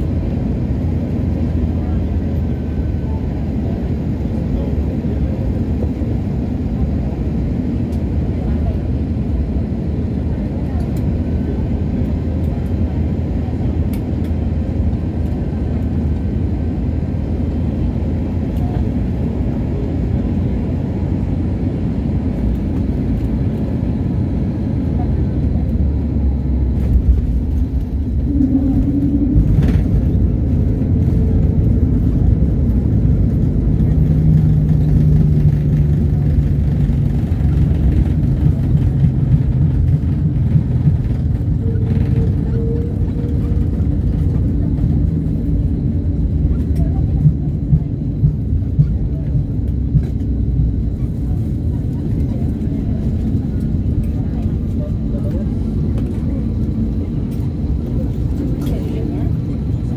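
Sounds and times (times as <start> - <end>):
airliner engines rumbling: 0.0 - 59.9.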